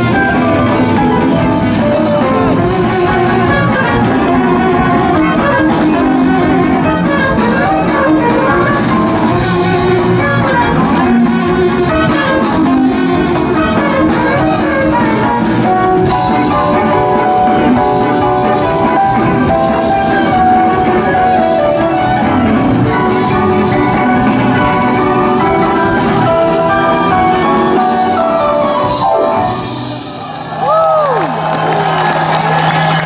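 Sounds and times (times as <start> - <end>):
instrumental music with a beat: 0.0 - 30.6.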